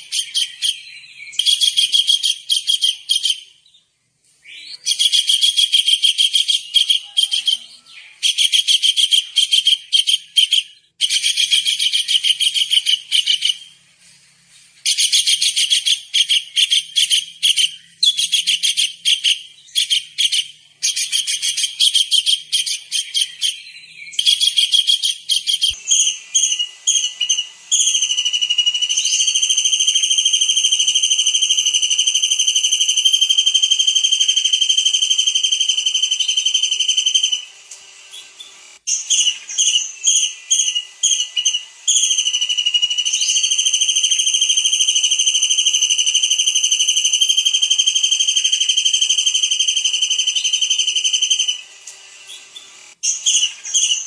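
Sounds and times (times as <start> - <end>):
drawn-out bird whistle: 0.0 - 3.8, 4.4 - 13.8, 14.8 - 51.7, 52.3 - 54.0.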